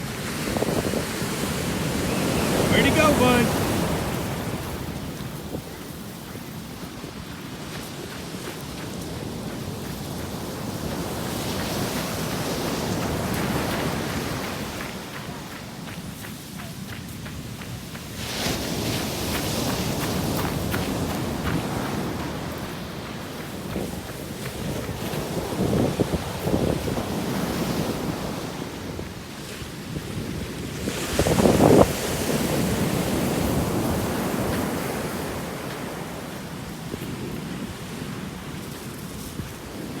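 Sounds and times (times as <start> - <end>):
surf washing in: 0.0 - 40.0
wind blowing across microphone: 0.0 - 40.0.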